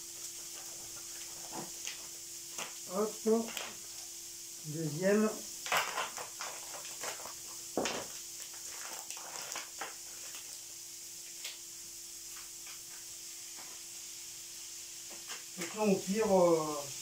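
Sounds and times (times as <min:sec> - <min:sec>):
faint steady hum: 0:00.0 - 0:17.0
food sizzling in a frying pan: 0:00.0 - 0:17.0.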